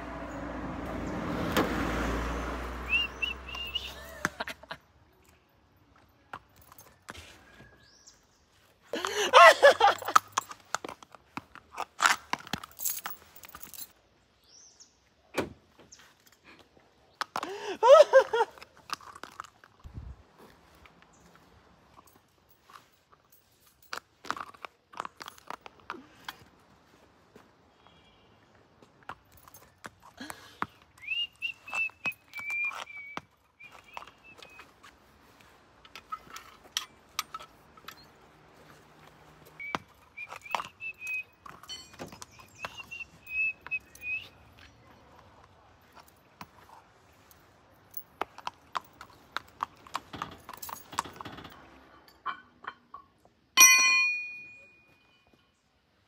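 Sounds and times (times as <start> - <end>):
horse hooves on paved road: 0.0 - 14.0, 16.0 - 52.0.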